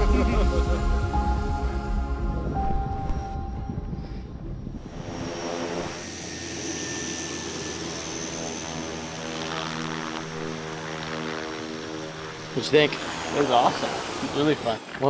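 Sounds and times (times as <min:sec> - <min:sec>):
high turbine whine: 0:00.0 - 0:15.0
turboprop propeller drone: 0:00.0 - 0:15.0.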